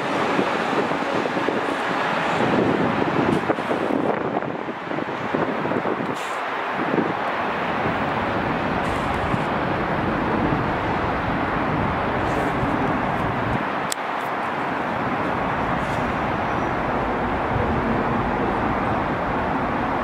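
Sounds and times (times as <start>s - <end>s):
train rumbling along tracks: 0.0s - 20.0s.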